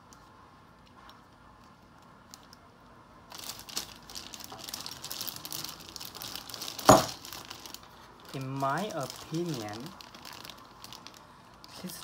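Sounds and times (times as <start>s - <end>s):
plastic bags crinkling: 1.2s - 12.0s.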